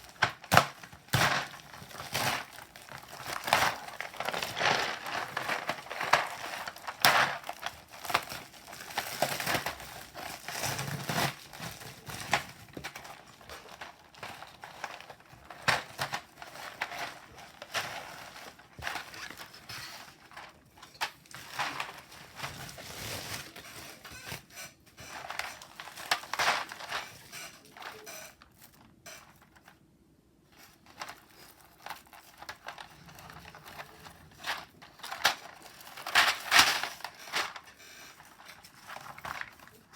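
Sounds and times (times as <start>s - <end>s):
plastic packaging crinkling: 0.0s - 29.8s, 30.5s - 39.9s.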